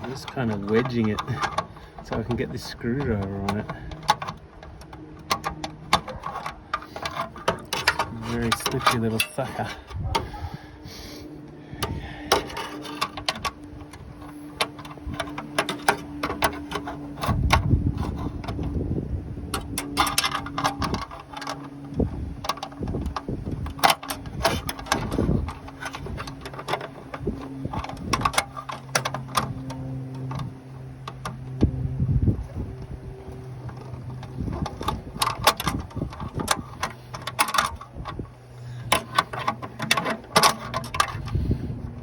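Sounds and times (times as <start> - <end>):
hand tools clicking on metal: 0.0 - 10.5, 11.4 - 31.9, 32.7 - 42.0
low hum: 0.0 - 42.0.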